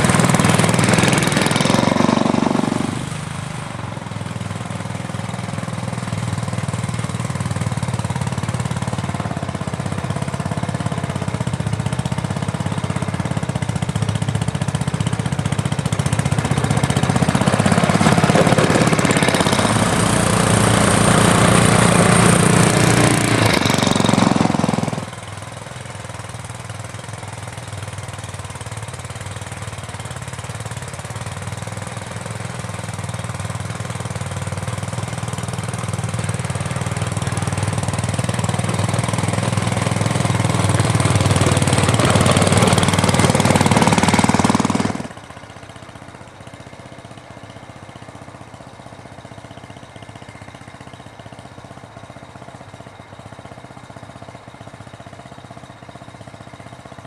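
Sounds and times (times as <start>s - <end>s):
small locomotive engine running: 0.0s - 57.0s.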